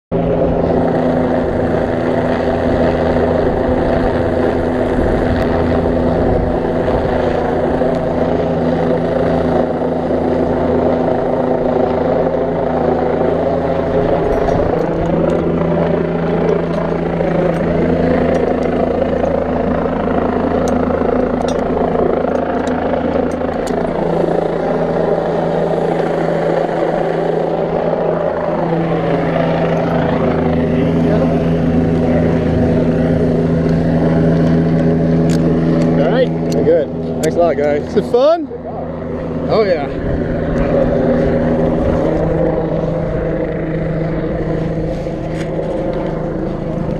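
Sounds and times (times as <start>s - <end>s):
helicopter rotor and turbine drone: 0.1s - 46.9s.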